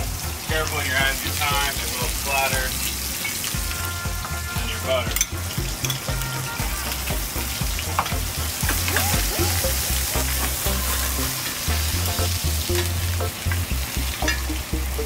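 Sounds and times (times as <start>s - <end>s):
steaks sizzling in a skillet: 0.0s - 15.0s.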